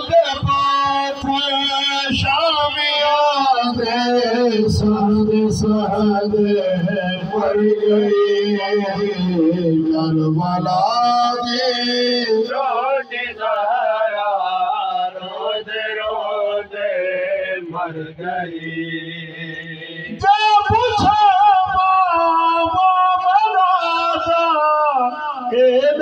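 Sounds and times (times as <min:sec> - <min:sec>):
men chanting a lament: 0:00.0 - 0:26.0.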